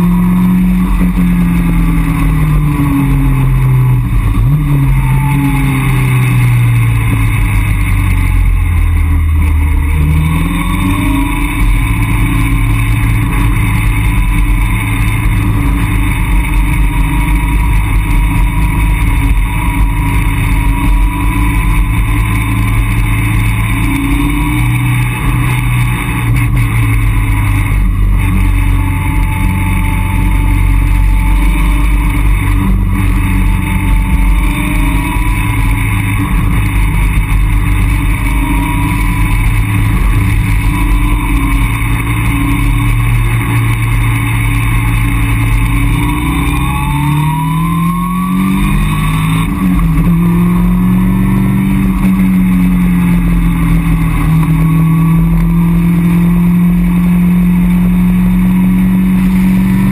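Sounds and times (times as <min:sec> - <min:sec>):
car engine revving: 0:00.0 - 0:59.9
wind and road noise: 0:00.0 - 0:59.9.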